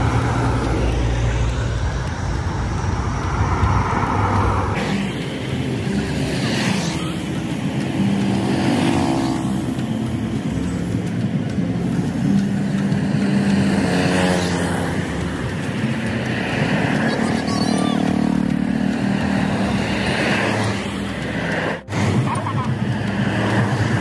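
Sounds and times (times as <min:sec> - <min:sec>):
steady traffic hum: 0:00.0 - 0:24.0
vehicles passing close by: 0:00.0 - 0:24.0.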